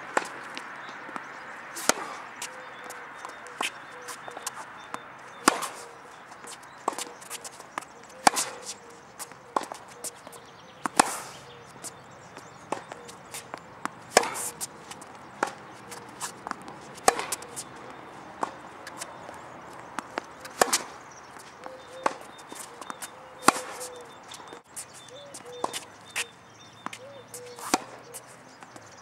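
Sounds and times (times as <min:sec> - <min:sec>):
rackets striking tennis balls: 0:00.0 - 0:29.0
tennis ball bounces: 0:00.0 - 0:29.0.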